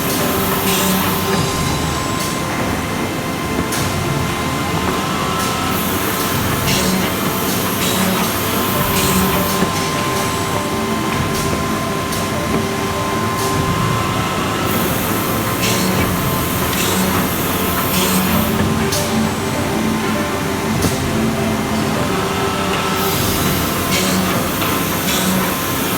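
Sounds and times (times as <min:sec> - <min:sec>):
woodworking machinery humming: 0:00.0 - 0:25.9.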